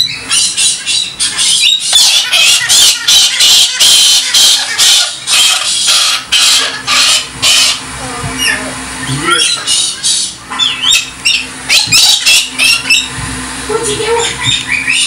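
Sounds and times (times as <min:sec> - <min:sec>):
cockatoo squawking: 0:00.0 - 0:15.0.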